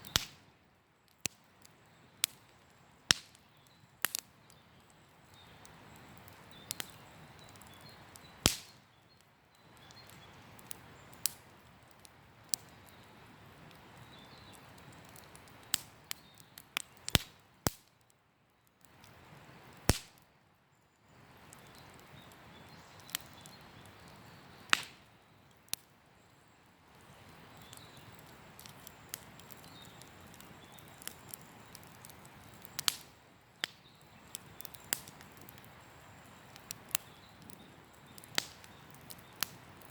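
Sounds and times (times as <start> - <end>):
campfire crackling: 0.0 - 39.9
fire popping: 0.0 - 39.9.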